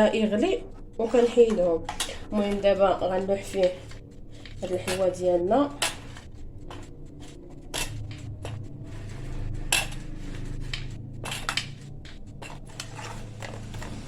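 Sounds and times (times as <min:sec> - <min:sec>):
low steady hum: 0:00.0 - 0:14.0
clatter of dishes and utensils: 0:01.0 - 0:02.8, 0:03.5 - 0:14.0.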